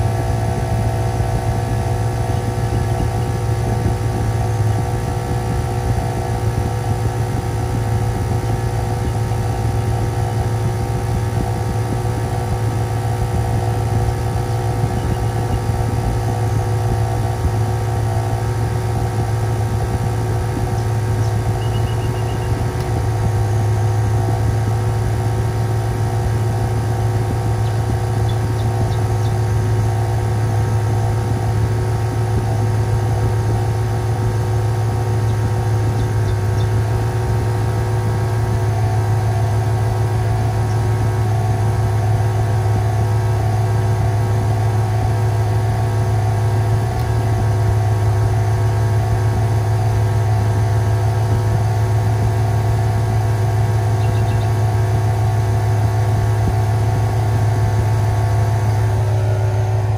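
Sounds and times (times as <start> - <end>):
air compressor running: 0.0 - 59.9
car engine idling: 0.0 - 59.9.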